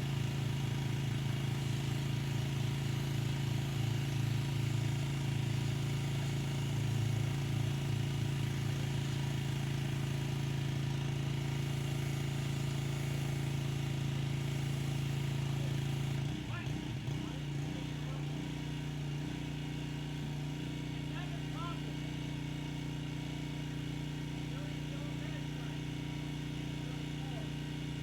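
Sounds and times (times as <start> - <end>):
pressure washer engine hum: 0.0 - 28.0.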